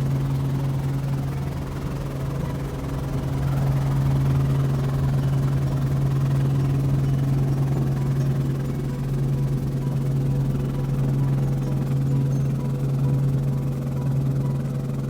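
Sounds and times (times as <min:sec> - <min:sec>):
helicopter drone: 0:00.0 - 0:15.0.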